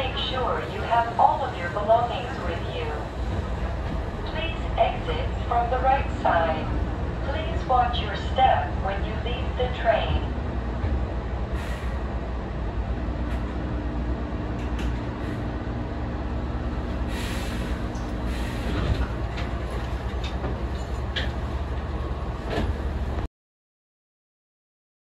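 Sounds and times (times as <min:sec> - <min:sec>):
electric train rumbling: 0:00.0 - 0:23.3.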